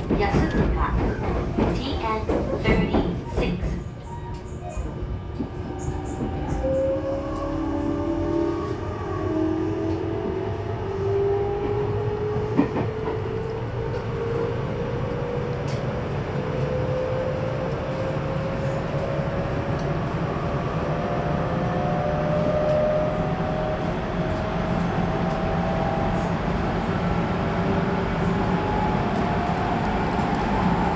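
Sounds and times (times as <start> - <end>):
wheels rumbling on rail: 0.0 - 30.9.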